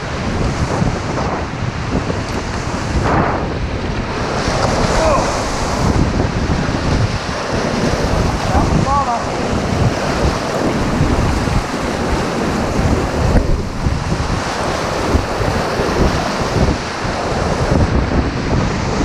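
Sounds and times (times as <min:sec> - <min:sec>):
whitewater rapids rushing: 0:00.0 - 0:19.0
wind buffeting microphone: 0:00.0 - 0:19.0.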